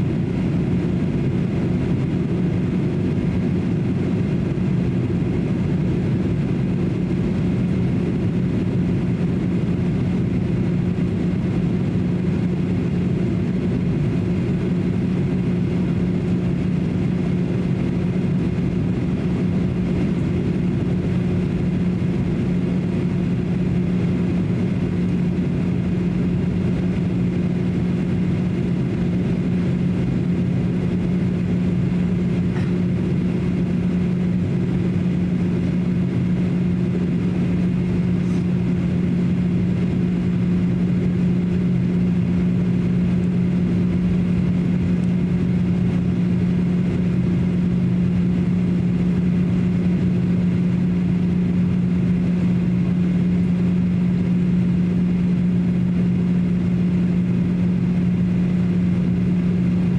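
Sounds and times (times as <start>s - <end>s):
jet engine hum: 0.0s - 59.9s.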